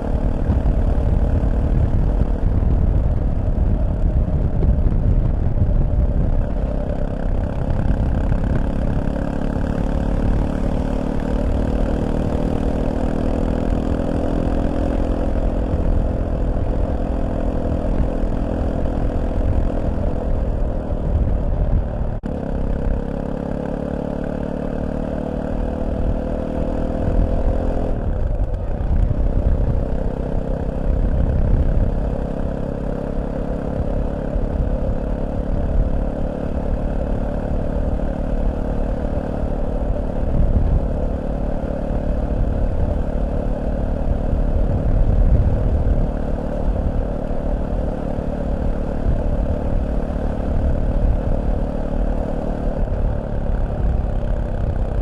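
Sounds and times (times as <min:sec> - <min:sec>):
low wind rumble: 0:00.0 - 0:55.0
motorcycle engine running: 0:00.0 - 0:55.0.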